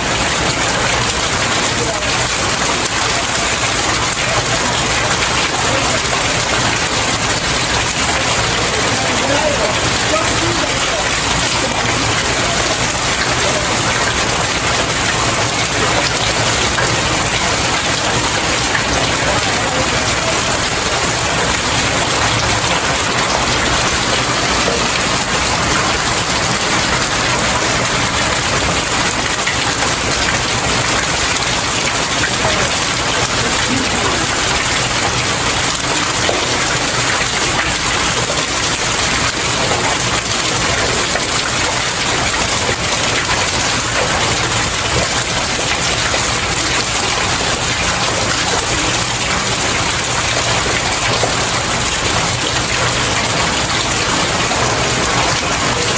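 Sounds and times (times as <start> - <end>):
rain falling on stairs: 0.0 - 55.9.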